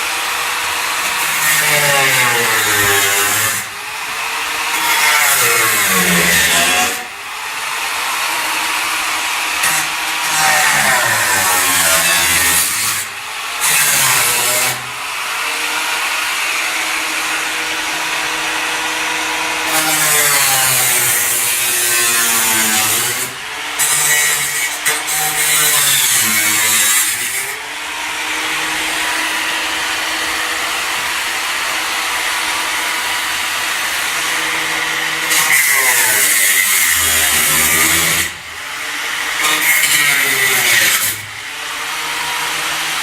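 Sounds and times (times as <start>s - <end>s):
hand-held power tool running: 0.0s - 43.0s.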